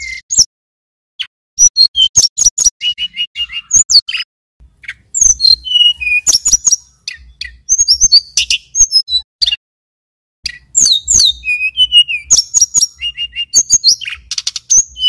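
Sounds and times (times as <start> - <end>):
bird chirps and whistles: 0.0 - 0.5, 1.2 - 9.6, 10.4 - 15.0.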